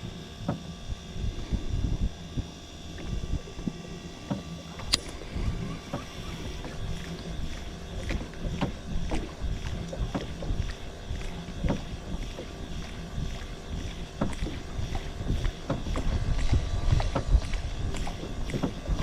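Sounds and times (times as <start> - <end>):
boat low rumble: 0.0 - 19.0
water slapping hull: 0.1 - 19.0.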